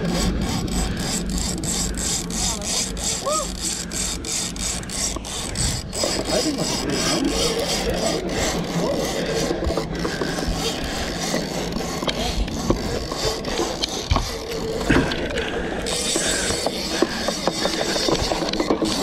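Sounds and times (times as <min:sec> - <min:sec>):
steady low rumble: 0:00.0 - 0:18.4
fishing reel winding: 0:00.0 - 0:19.0
fishing rod rubbing and scraping: 0:00.0 - 0:19.0.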